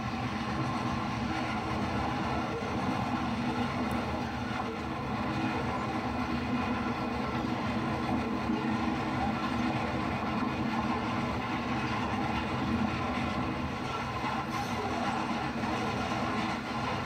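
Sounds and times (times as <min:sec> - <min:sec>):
model locomotive running on track: 0:00.0 - 0:17.0.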